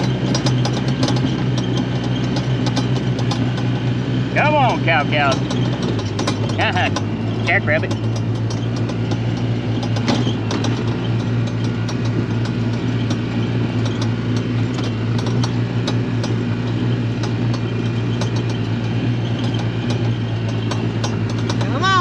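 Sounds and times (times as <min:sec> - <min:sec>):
small clicks and rattles: 0:00.0 - 0:03.9, 0:05.0 - 0:22.0
vehicle engine running: 0:00.0 - 0:22.0.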